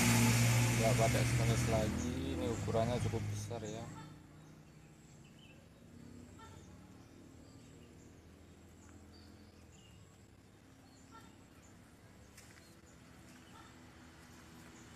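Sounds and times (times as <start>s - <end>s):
faint outdoor background hum: 0.0s - 14.9s.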